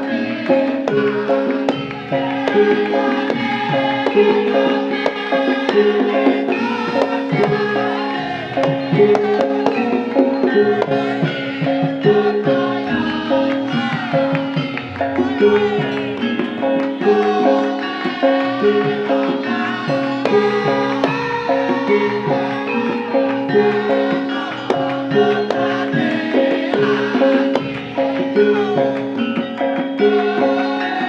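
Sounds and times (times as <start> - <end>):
drum strokes: 0.0 - 31.0
gliding melodic line: 0.0 - 31.0
ringing metallophone notes: 0.0 - 31.0.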